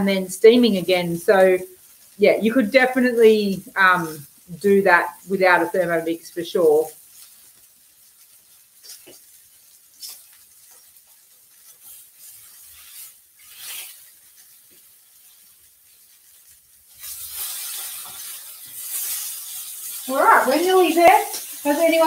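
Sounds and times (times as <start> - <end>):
chicken frying in a pan: 0.0 - 22.0.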